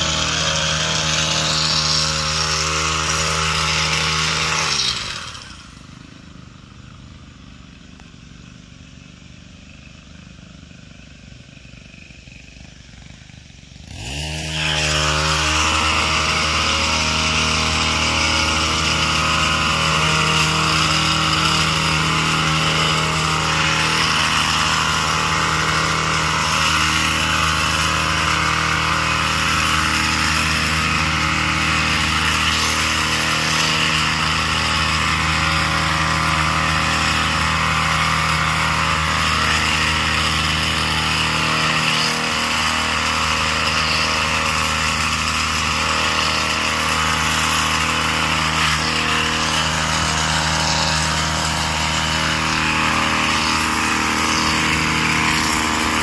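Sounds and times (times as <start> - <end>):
hedge trimmer engine running: 0.0 - 56.0.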